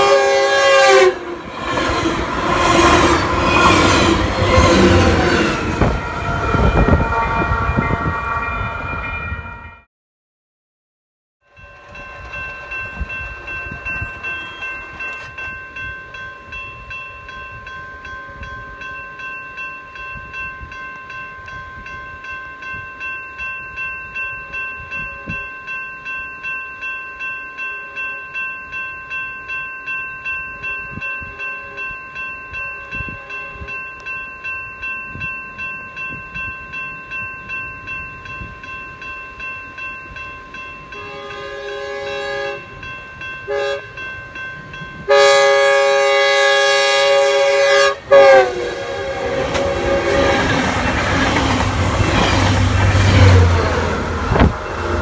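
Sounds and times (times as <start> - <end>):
crossing warning bell ringing: 0.0 - 9.8, 11.5 - 55.0.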